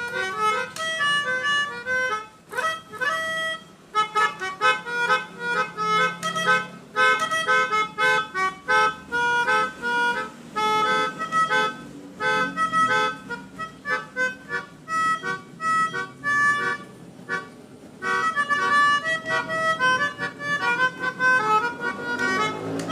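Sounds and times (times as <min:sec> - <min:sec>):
melodica playing bouncy tune: 0:00.0 - 0:22.9.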